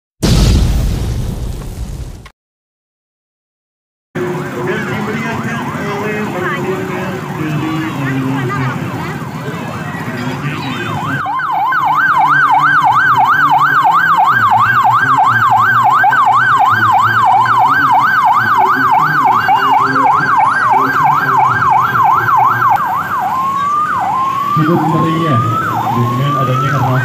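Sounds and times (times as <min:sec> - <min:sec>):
police siren yelping: 0:04.2 - 0:27.0.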